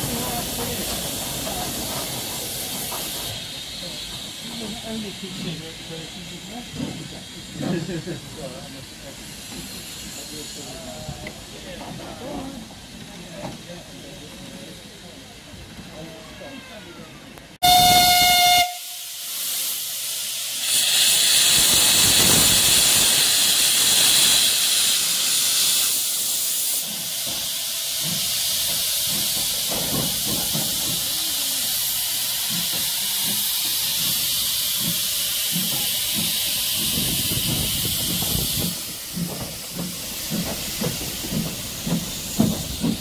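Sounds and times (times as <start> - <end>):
steam locomotive hissing steam: 0.0 - 43.0.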